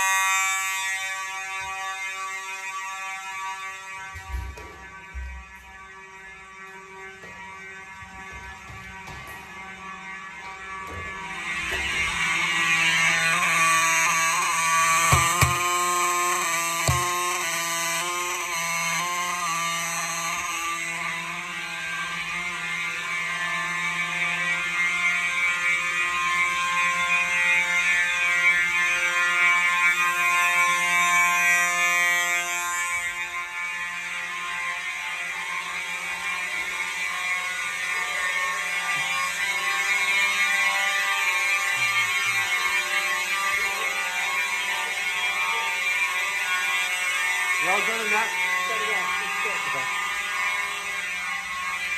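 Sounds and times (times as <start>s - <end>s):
fire alarm horn: 0.0s - 51.9s.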